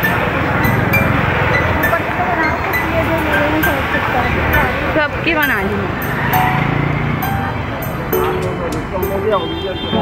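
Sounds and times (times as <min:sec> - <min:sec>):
crowd noise: 0:00.0 - 0:10.0
traffic engines rumbling: 0:00.0 - 0:10.0.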